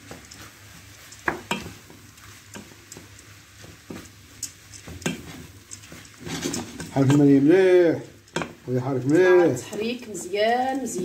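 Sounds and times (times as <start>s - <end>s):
faint frying sizzle: 0.0s - 11.0s
wooden spoon scraping a pot: 0.0s - 11.0s.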